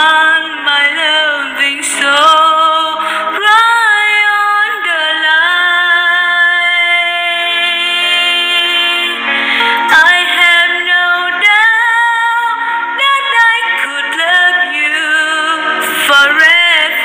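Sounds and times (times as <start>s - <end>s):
woman singing pop ballad: 0.0s - 17.0s.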